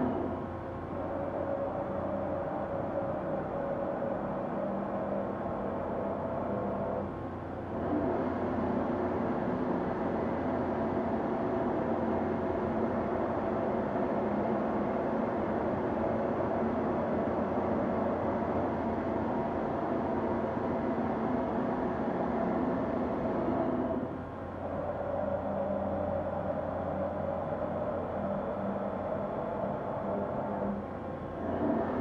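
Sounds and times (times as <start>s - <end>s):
machining center humming: 0.0s - 8.1s, 9.1s - 32.0s.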